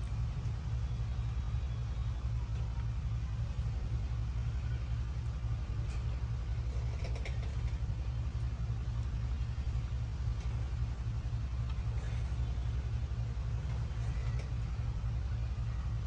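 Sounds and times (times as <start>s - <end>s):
low pulsing engine-like hum: 0.0s - 16.0s.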